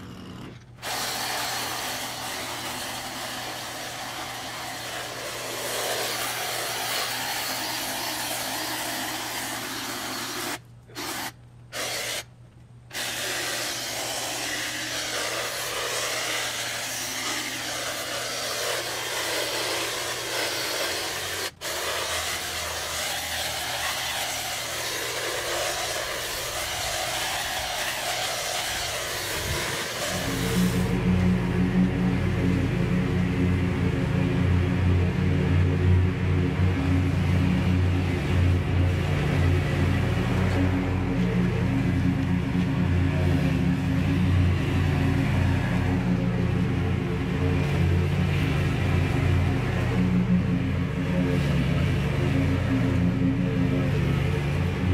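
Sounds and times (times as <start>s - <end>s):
lawn power equipment running: 0.0s - 12.2s, 12.8s - 54.9s.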